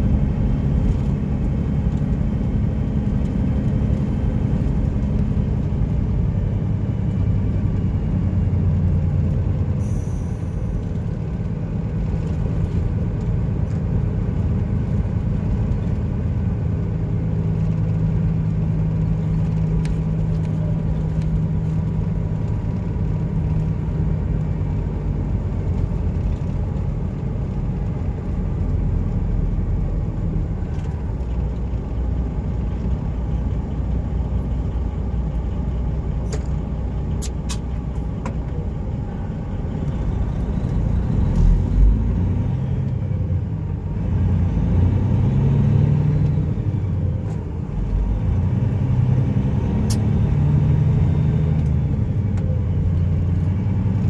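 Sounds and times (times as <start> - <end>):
truck diesel engine rumble: 0.0 - 54.0.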